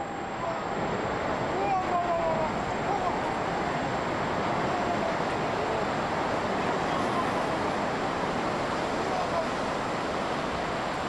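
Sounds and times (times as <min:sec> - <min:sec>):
heavy rushing water: 0:00.0 - 0:11.0.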